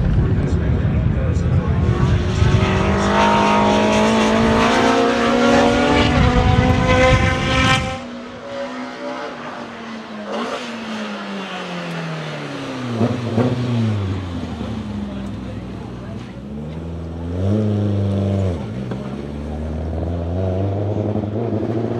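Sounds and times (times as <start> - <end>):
race car engine revving: 0.0 - 21.9.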